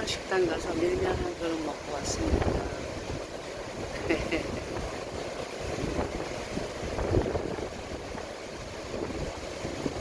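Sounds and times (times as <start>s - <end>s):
sea waves washing in: 0.0s - 10.0s.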